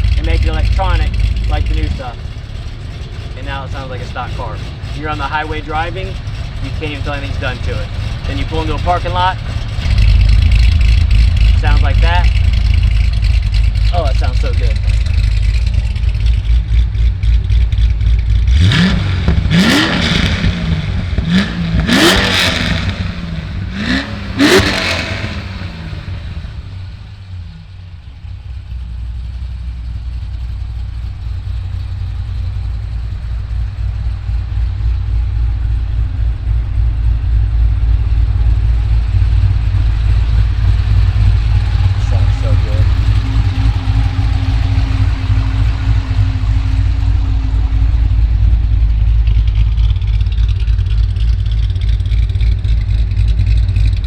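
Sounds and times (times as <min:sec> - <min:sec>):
lumpy engine idling and revving: 0:00.0 - 0:54.0.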